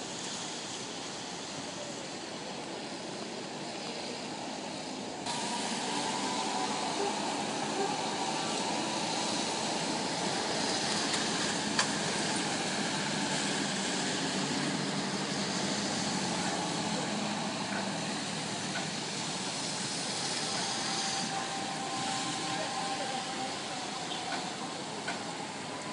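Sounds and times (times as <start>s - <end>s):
rain hissing: 0.0s - 25.9s
traffic on wet streets: 0.0s - 25.9s.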